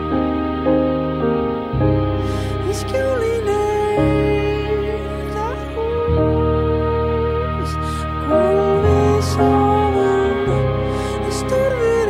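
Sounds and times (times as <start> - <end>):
slow sad instrumental music: 0.0 - 12.0.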